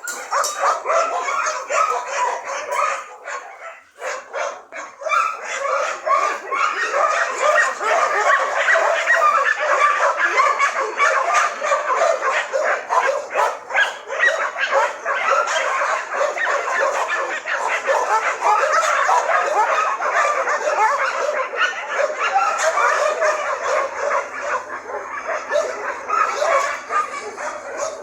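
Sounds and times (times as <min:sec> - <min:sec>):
dogs barking and yipping: 0:00.0 - 0:28.0.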